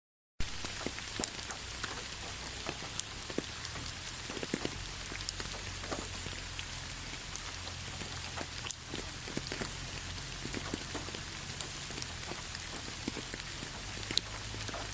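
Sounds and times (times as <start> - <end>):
rain falling: 0.4 - 14.9
raindrops splashing on a surface: 0.4 - 14.9.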